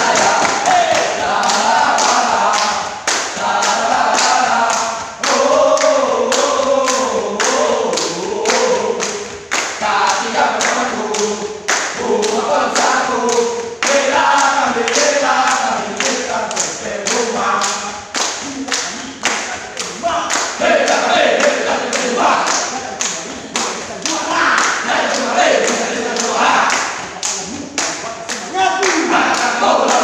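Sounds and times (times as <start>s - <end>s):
men singing a team cheer: 0.0s - 30.0s
sharp hand claps: 0.0s - 30.0s.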